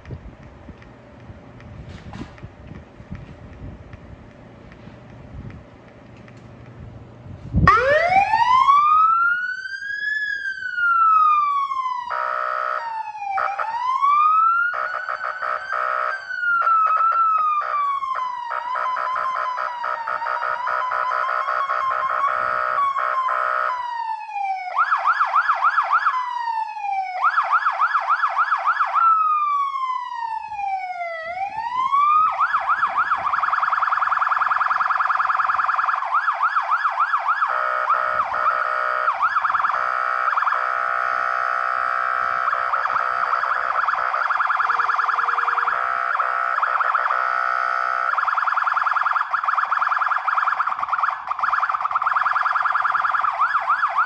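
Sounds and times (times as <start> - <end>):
fire engine siren: 7.4 - 54.0.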